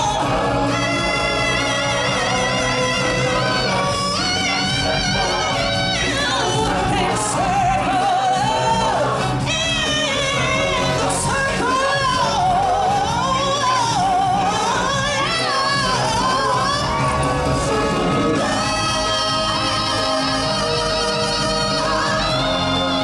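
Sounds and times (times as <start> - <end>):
person singing with vibrato: 0.0 - 23.0.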